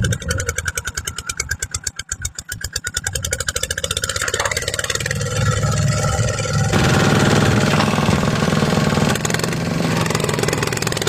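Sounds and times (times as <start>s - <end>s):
diesel tractor engine: 0.0s - 11.0s.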